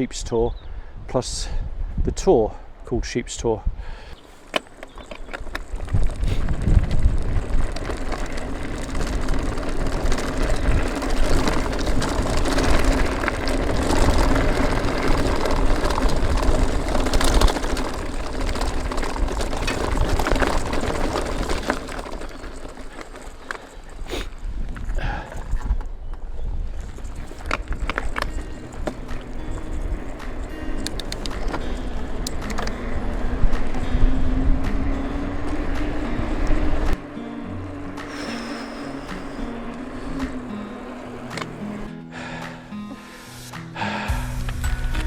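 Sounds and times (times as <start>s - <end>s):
wind buffeting microphone: 0.0s - 41.9s
bike tyre noise: 3.5s - 45.0s.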